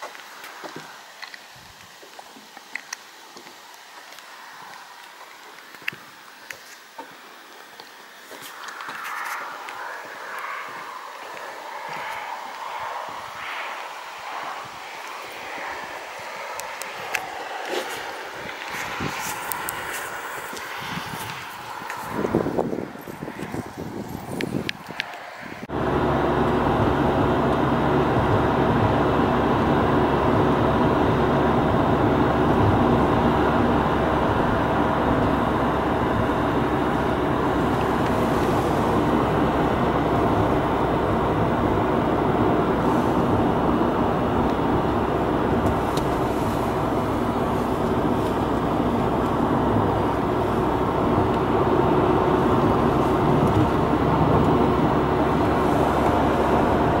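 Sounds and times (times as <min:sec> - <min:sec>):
car engine hum: 0:00.0 - 0:57.0
tyre and road noise: 0:00.0 - 0:57.0.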